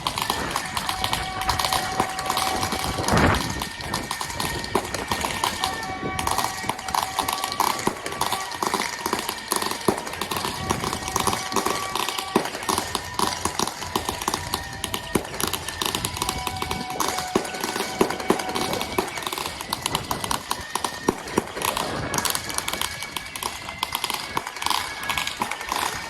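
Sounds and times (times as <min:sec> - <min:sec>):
clatter of sharp cracks: 0:00.0 - 0:26.0.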